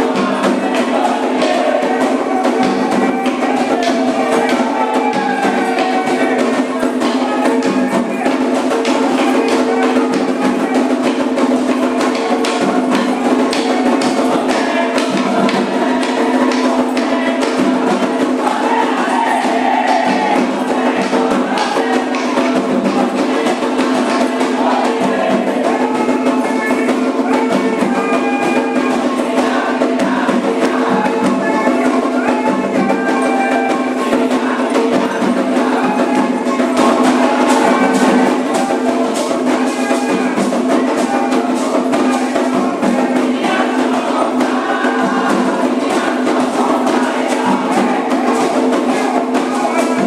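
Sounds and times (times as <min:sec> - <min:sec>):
group singing: 0:00.0 - 0:50.0
hand drums: 0:00.0 - 0:50.0
struck percussion keeping time: 0:00.0 - 0:50.0.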